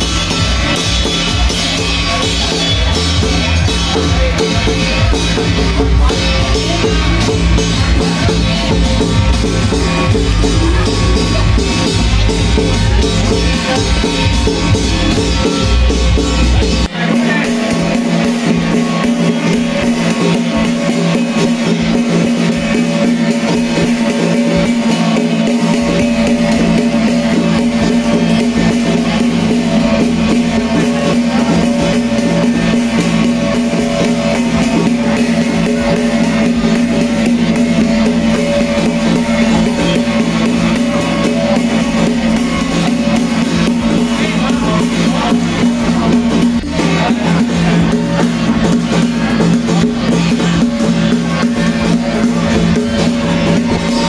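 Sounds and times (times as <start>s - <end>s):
band with drums bass and guitar: 0.0s - 54.0s.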